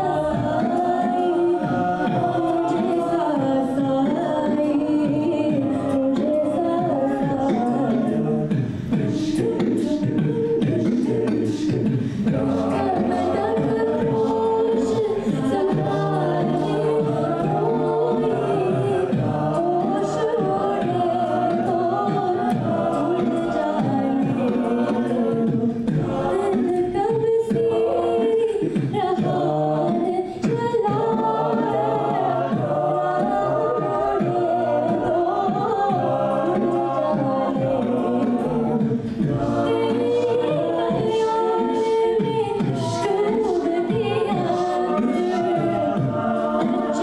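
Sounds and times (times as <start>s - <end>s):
a cappella vocal harmony: 0.0s - 47.0s.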